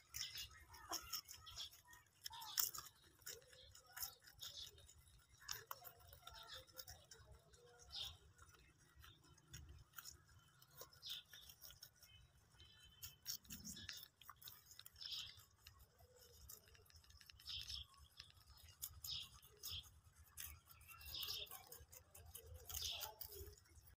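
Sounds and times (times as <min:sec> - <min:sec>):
rabbits chewing grass: 0:00.0 - 0:23.9.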